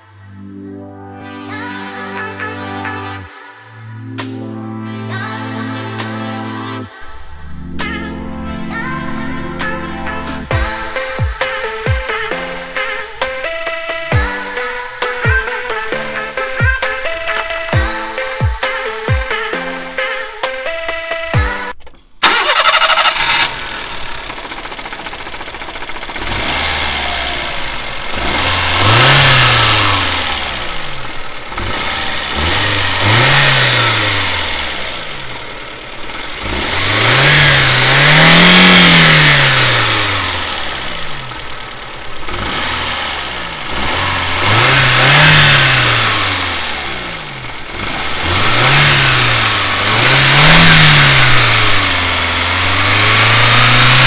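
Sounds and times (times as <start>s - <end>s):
car engine idling and revving: 5.9s - 21.0s, 21.7s - 54.0s.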